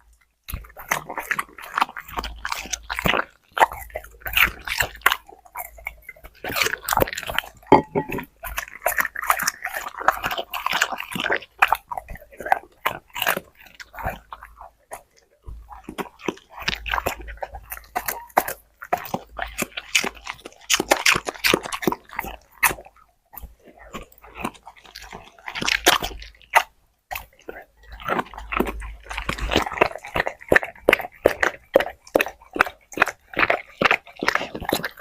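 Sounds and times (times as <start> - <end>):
dog crunching food: 0.0 - 35.0.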